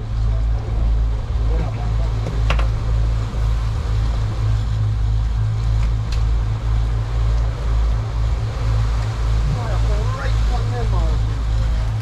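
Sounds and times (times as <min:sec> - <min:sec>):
boat engine rumble: 0:00.0 - 0:12.0
wind on microphone: 0:00.0 - 0:12.0.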